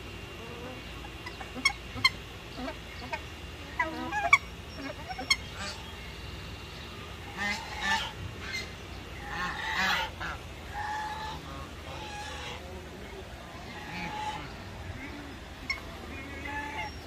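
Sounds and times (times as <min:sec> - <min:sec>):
waterfowl honking: 0:00.3 - 0:06.0, 0:07.2 - 0:12.8, 0:13.4 - 0:17.0.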